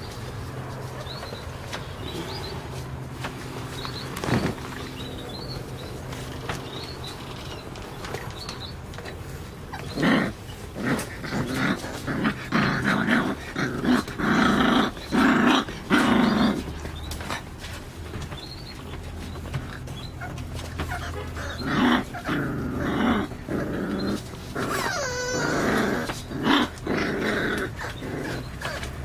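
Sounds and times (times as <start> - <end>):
puppy growling: 0.0 - 18.6, 19.2 - 29.0.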